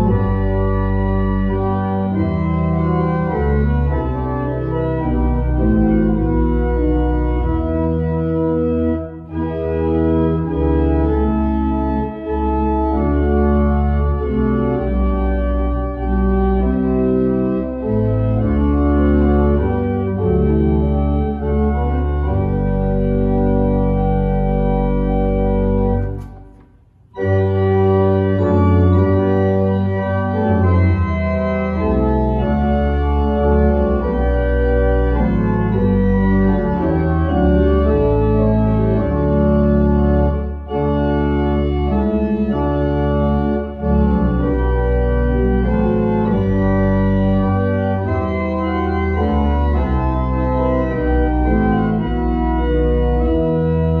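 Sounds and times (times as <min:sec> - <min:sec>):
pipe organ playing chords: 0:00.0 - 0:54.0.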